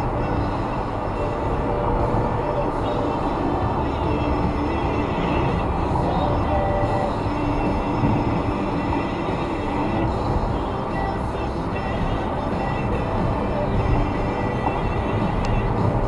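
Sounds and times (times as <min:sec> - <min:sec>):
faint music: 0:00.0 - 0:16.0
road and tyre rumble: 0:00.0 - 0:16.0.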